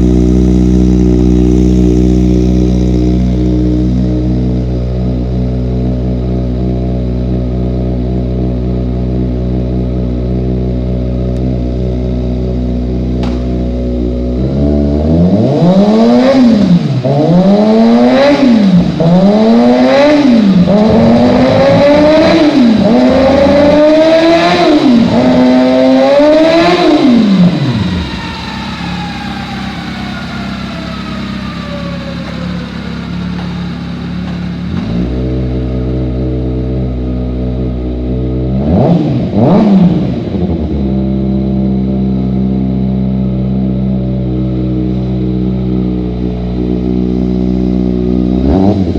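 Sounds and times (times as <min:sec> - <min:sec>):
motorcycle engine idling and revving: 0:00.0 - 0:48.9.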